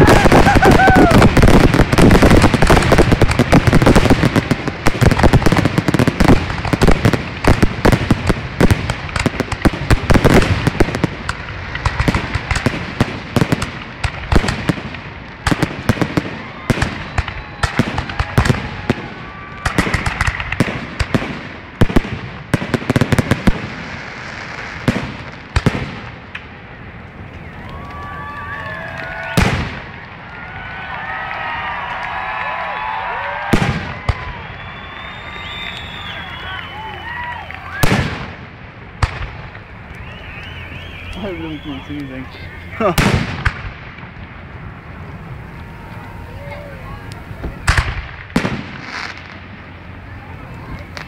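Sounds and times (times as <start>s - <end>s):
fireworks booms: 0.0s - 51.0s
fireworks bursting and crackling: 0.0s - 51.0s.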